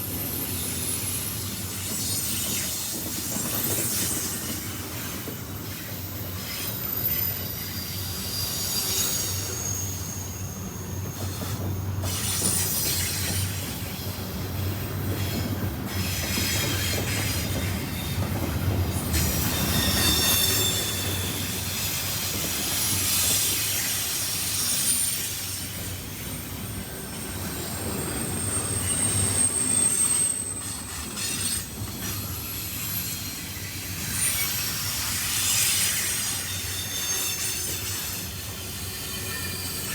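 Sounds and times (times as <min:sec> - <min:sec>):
freight train rumbling past: 0:00.0 - 0:39.9
train wheel squeals: 0:00.0 - 0:39.9.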